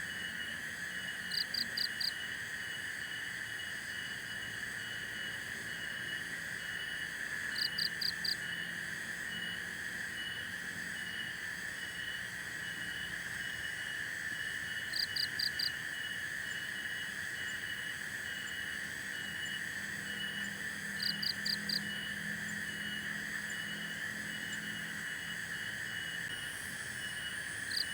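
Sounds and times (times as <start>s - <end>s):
crickets and insects trilling: 0.0s - 27.9s.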